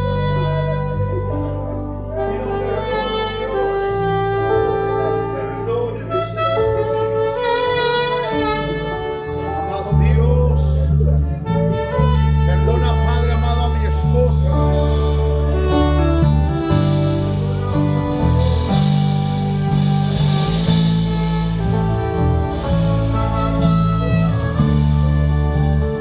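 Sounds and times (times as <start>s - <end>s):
slow instrumental worship music: 0.0s - 26.0s
sustained bass notes: 0.0s - 26.0s.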